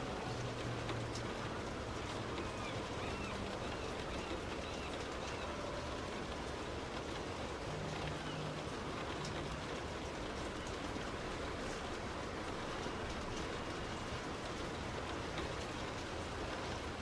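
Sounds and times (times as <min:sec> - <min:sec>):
car tyres on wet road: 0:00.0 - 0:17.0
heavy rain: 0:00.0 - 0:17.0.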